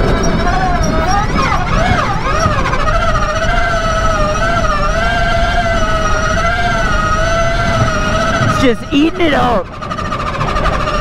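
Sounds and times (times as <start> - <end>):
car rumbling on sandy track: 0.0 - 11.0
electric motor whining: 0.0 - 11.0.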